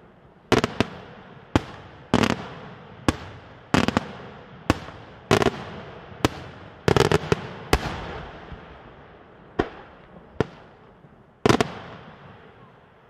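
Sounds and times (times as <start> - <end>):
fireworks bursting with echoing rumble: 0.0 - 13.0.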